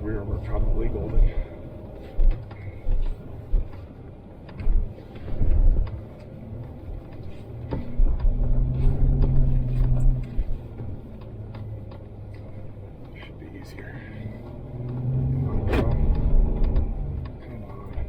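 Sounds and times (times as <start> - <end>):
engine rumble: 0.0 - 18.0.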